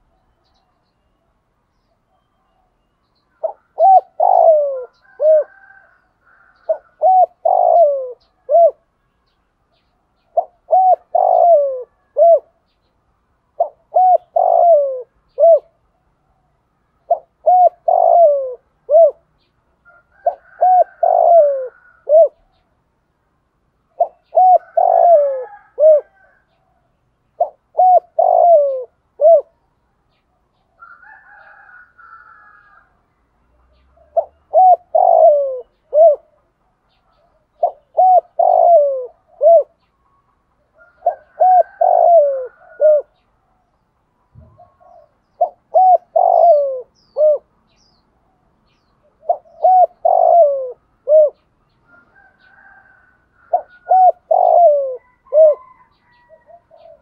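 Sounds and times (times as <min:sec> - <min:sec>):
dove cooing: 0:02.0 - 0:09.0, 0:10.2 - 0:12.8, 0:13.5 - 0:16.4, 0:17.0 - 0:22.7, 0:23.9 - 0:33.0, 0:33.7 - 0:47.5, 0:48.3 - 0:57.0.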